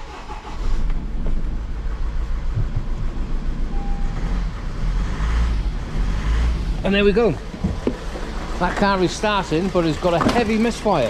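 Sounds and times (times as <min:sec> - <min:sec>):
misfiring diesel engine rumble: 0:00.0 - 0:11.0.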